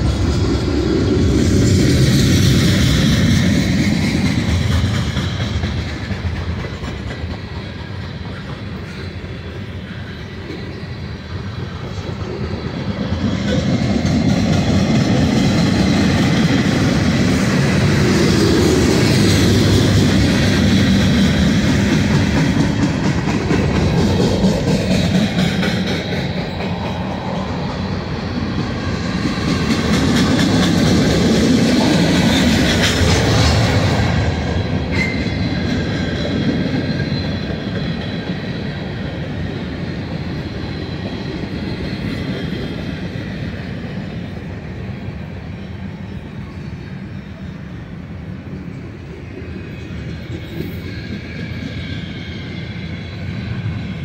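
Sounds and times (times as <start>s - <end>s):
clickety-clack over rail joints: 0.0s - 45.0s, 48.6s - 54.0s
train wheels rumbling on rails: 0.0s - 54.0s.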